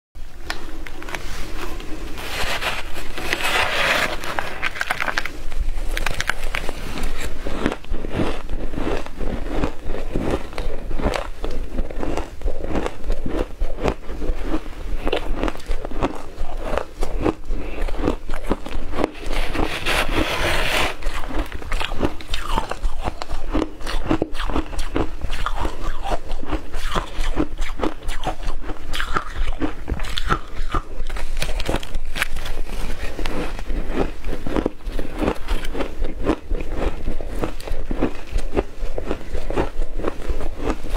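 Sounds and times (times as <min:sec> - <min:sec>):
chewing crunchy ice: 0:04.1 - 0:40.9.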